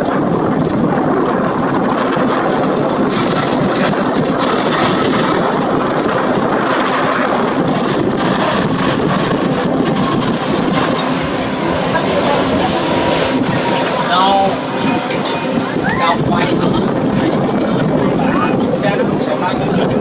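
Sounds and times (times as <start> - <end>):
loud jet engine noise: 0.0 - 20.0.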